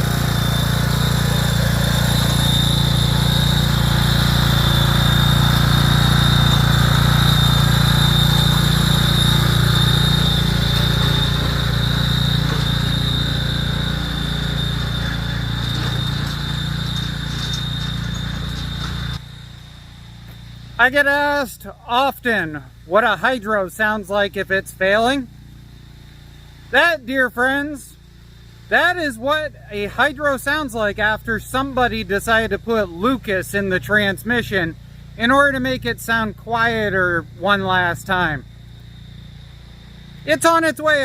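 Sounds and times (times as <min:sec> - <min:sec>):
low hum with high whine: 0:00.0 - 0:41.0.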